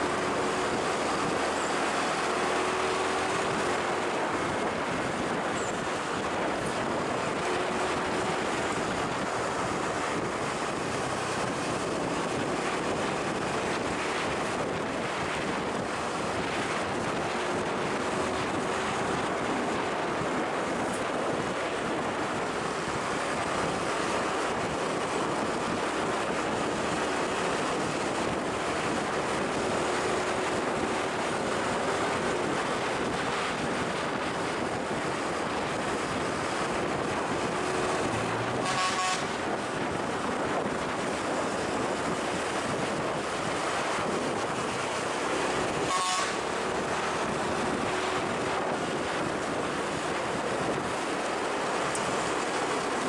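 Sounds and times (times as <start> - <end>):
vehicle engines humming: 0.0 - 53.0
wind on microphone: 0.0 - 53.0.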